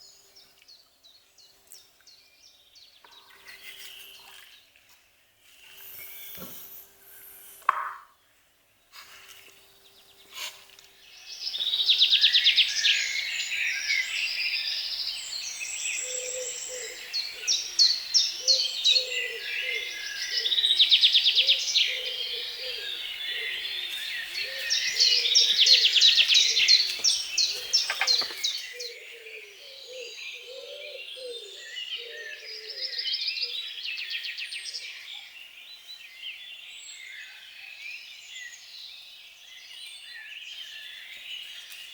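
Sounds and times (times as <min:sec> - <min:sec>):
small birds chirping and trilling: 0:00.0 - 0:04.7, 0:08.8 - 0:41.9.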